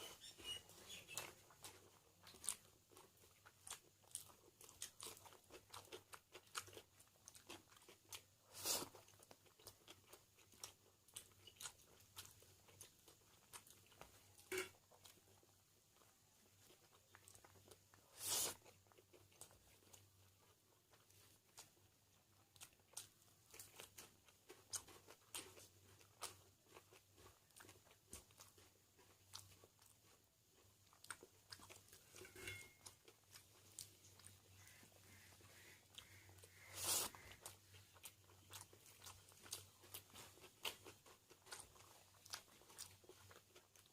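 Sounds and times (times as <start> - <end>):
wet chewing and mouth clicks: 0.0 - 43.9.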